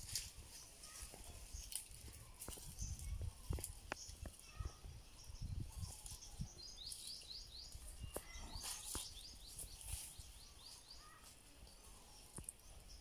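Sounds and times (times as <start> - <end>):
bird chirping: 0.2 - 13.0.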